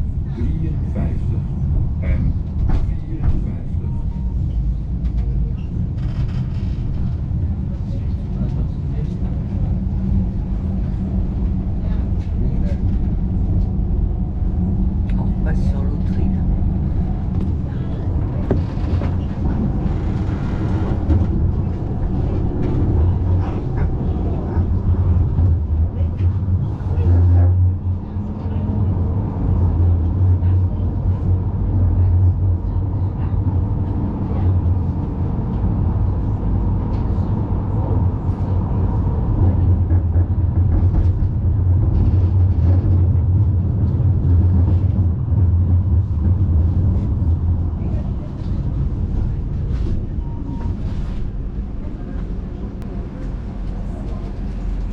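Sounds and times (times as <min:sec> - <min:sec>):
tram wheels rumbling on rails: 0:00.0 - 0:54.9.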